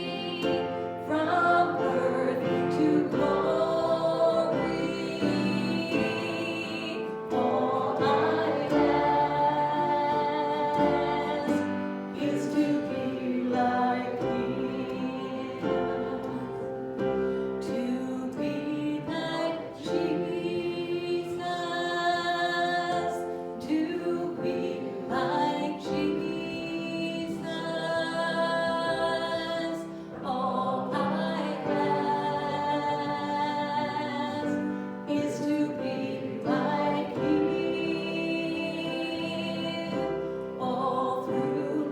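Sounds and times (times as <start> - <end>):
voices singing together: 0.0 - 41.9.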